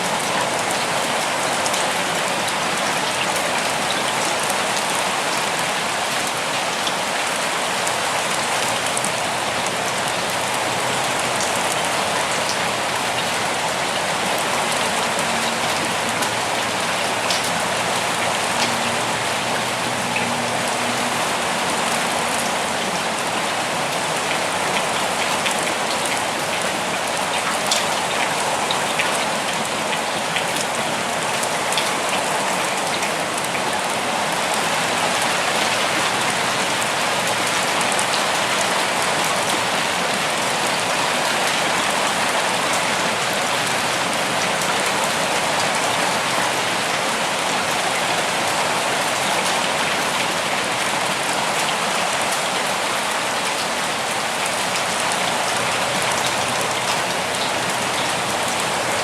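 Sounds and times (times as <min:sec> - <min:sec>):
rain falling in forest: 0:00.0 - 0:59.0.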